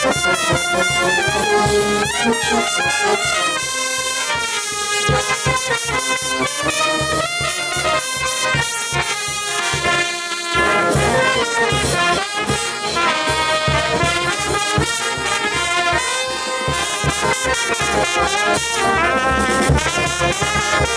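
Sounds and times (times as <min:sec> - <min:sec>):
brass band playing: 0:00.0 - 0:20.9.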